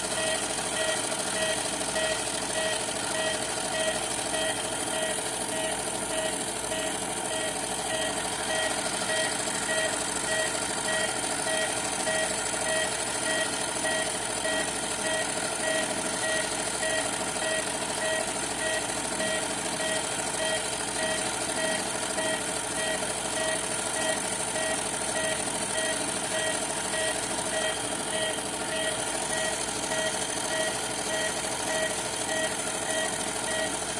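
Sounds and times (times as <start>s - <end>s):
washing machine motor hum: 0.0s - 33.9s.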